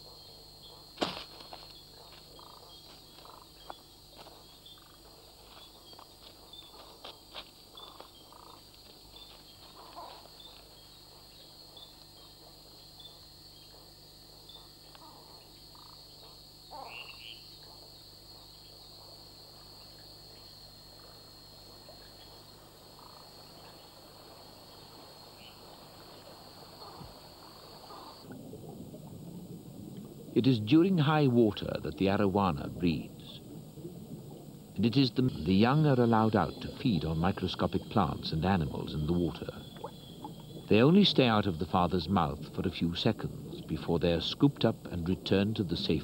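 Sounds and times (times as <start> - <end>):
high-pitched insect trill: 0.0 - 28.4, 34.5 - 46.0
short frog calls: 0.0 - 44.9.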